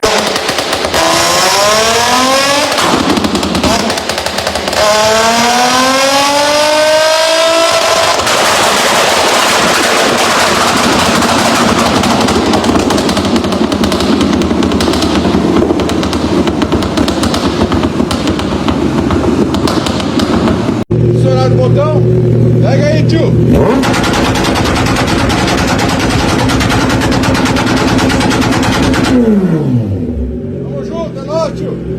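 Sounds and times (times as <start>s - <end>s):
exhaust pops and crackles: 0.0s - 5.7s, 7.6s - 22.0s, 23.6s - 29.3s
engine revving: 0.0s - 31.9s.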